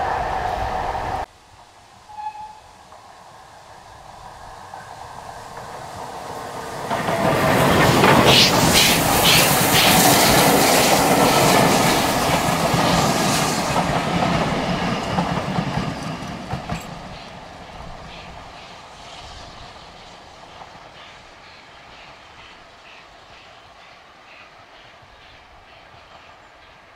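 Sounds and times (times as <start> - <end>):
steam train passing: 0.0 - 26.9.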